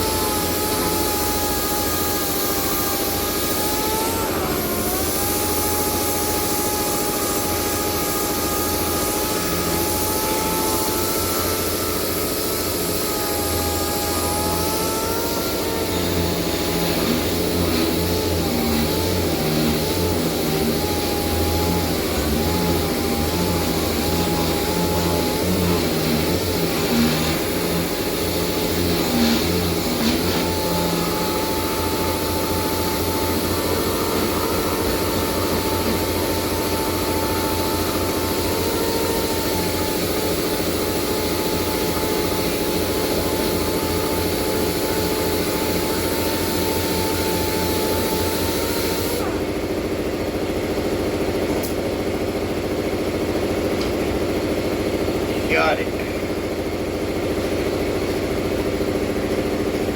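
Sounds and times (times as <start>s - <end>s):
motor whining: 0.0s - 50.0s.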